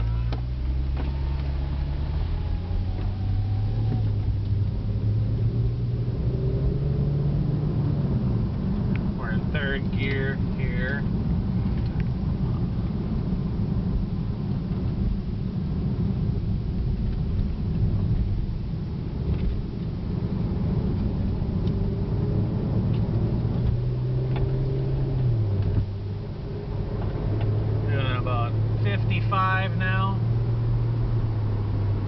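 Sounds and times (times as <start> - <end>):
car engine and road rumble in cabin: 0.0 - 32.0.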